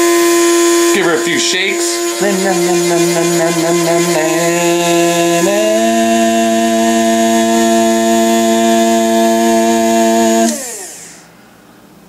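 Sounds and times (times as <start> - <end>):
electric coffee grinder whining: 0.0 - 11.3.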